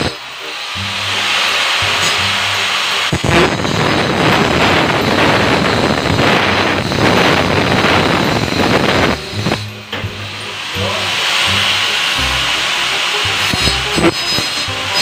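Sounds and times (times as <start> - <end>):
power saw cutting board: 0.0 - 15.0.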